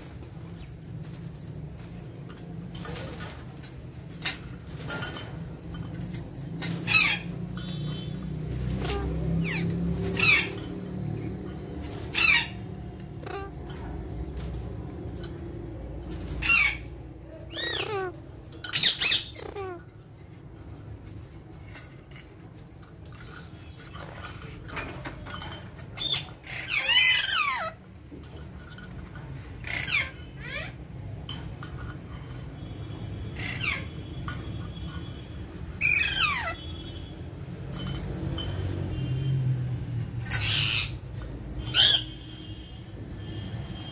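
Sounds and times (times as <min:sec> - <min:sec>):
parakeets squawking: 0:02.7 - 0:20.5, 0:21.8 - 0:38.6, 0:40.0 - 0:42.9.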